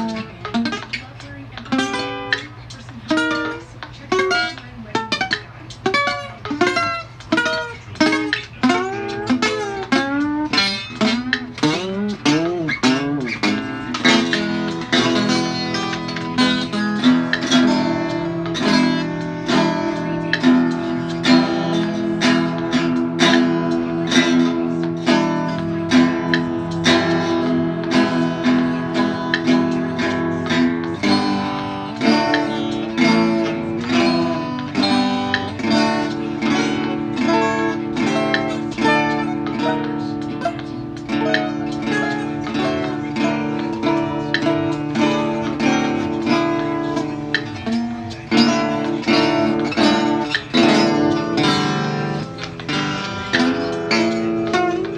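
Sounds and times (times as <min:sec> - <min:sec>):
acoustic guitar music: 0:00.0 - 0:54.9.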